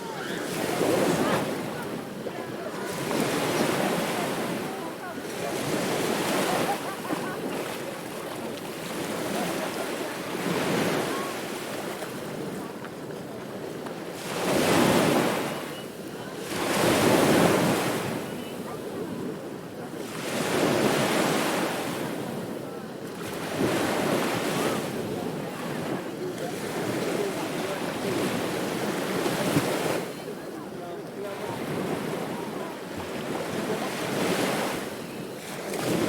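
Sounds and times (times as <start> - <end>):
ocean waves breaking on beach: 0.0 - 36.0.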